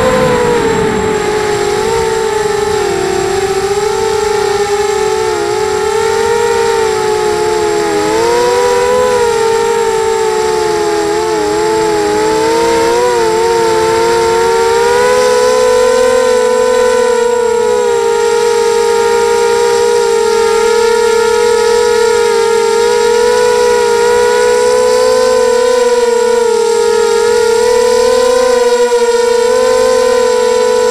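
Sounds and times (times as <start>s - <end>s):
quadcopter propellers whining: 0.0s - 30.9s.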